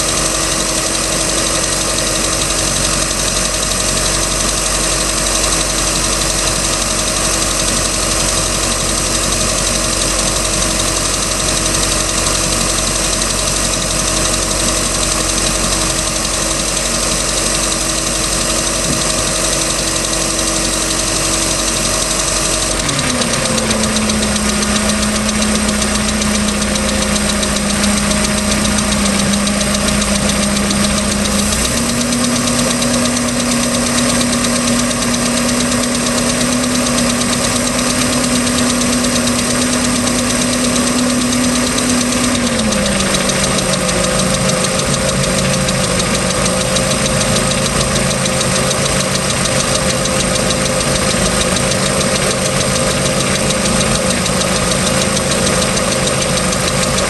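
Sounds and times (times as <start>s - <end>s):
engine ticking: 0.0s - 57.0s
marine engine idling: 0.0s - 57.0s.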